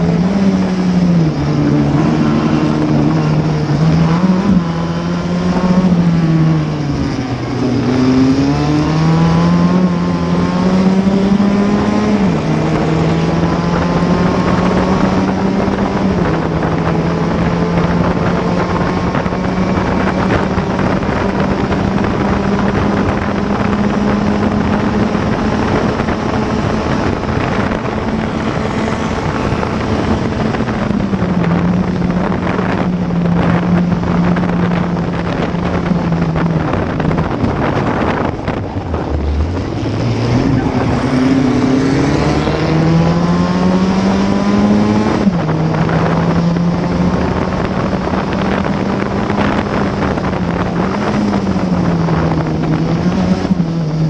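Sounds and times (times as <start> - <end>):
race car engine revving: 0.0 - 54.0
wind buffeting microphone: 0.0 - 54.0.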